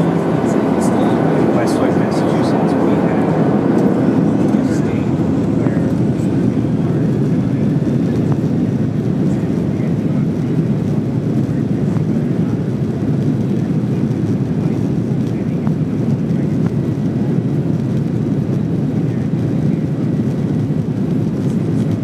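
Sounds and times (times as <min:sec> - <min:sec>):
jet engine rumble inside cabin: 0:00.0 - 0:22.0.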